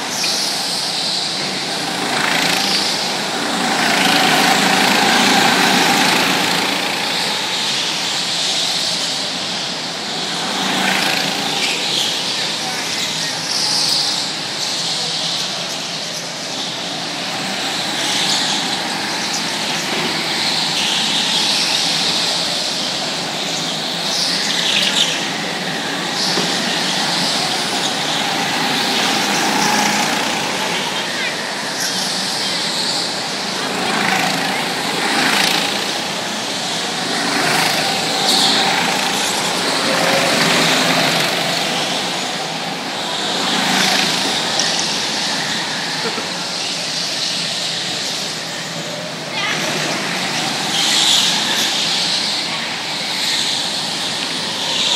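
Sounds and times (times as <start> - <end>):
go-kart engines buzzing: 0.0 - 54.9.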